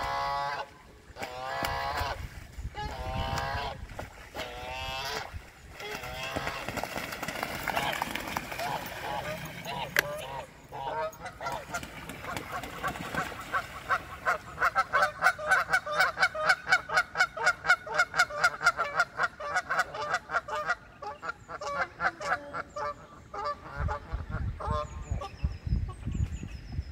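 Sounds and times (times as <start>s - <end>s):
geese honking: 0.0s - 2.2s, 2.8s - 6.7s, 7.6s - 24.8s.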